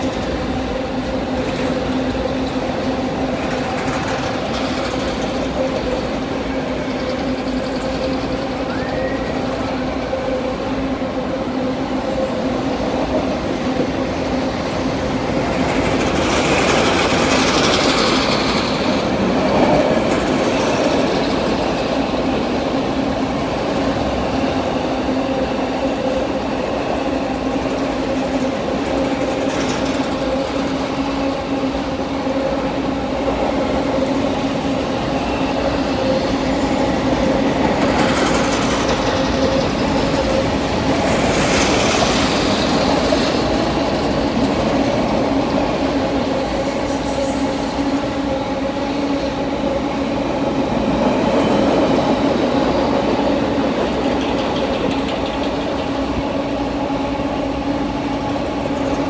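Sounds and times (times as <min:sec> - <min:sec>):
train wagons rumbling: 0:00.0 - 0:59.0.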